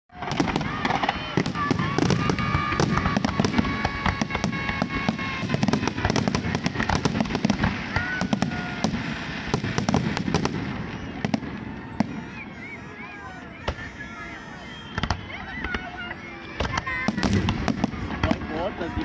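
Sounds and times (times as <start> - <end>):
fireworks bursting: 0.1 - 19.0
fireworks crackling: 0.1 - 19.0.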